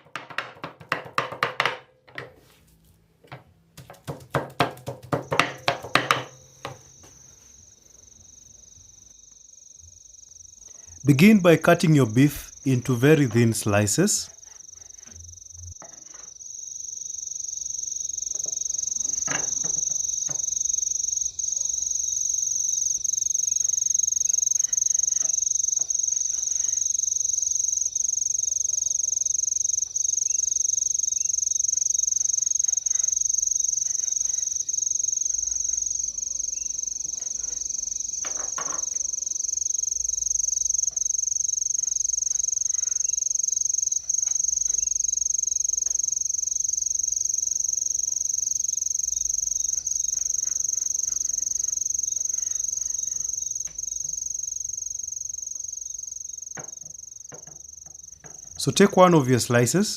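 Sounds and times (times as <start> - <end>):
high-pitched insect chorus: 5.2 - 59.9.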